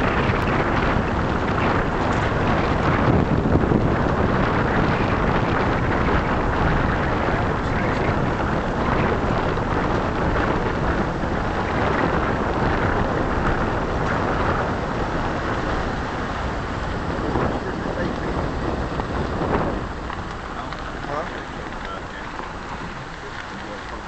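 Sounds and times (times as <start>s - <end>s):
tyres and engine rumbling: 0.0s - 24.0s
wind buffeting microphone: 0.0s - 24.0s.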